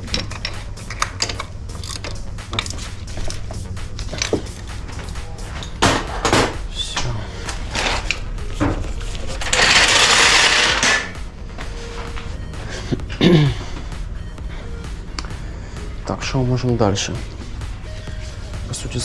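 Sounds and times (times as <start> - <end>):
harsh rushing noise: 0.0 - 19.0.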